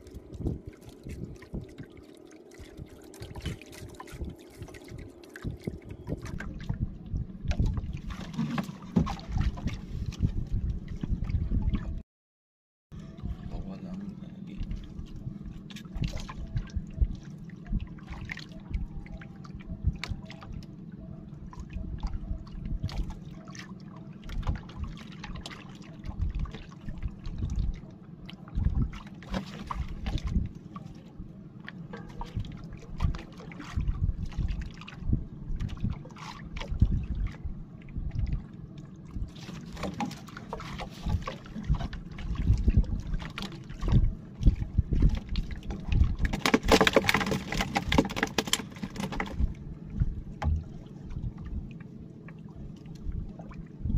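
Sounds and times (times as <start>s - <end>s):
knocks and splashes: 0.0s - 12.0s, 14.6s - 20.6s, 21.5s - 31.0s, 31.6s - 38.5s, 39.1s - 51.7s
low rumble: 0.0s - 12.0s, 12.9s - 23.5s, 26.0s - 46.3s, 49.3s - 53.9s
water lapping against boat hull: 0.0s - 12.0s, 13.0s - 53.9s.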